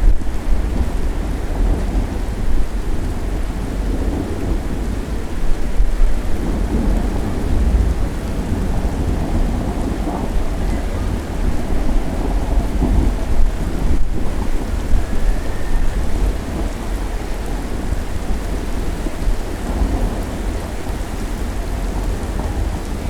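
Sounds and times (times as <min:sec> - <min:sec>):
steady rain falling: 0:00.0 - 0:23.0
thunder rumbling: 0:00.0 - 0:23.0.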